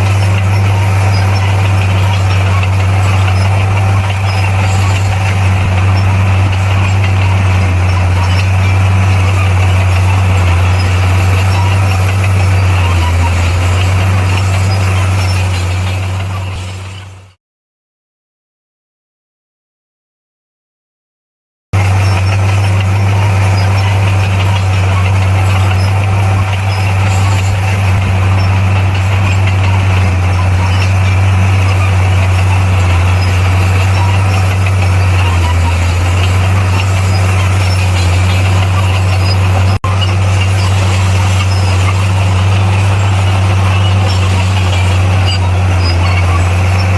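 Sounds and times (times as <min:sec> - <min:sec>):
bulldozer diesel engine running: 0:00.0 - 0:17.4, 0:21.8 - 0:46.9.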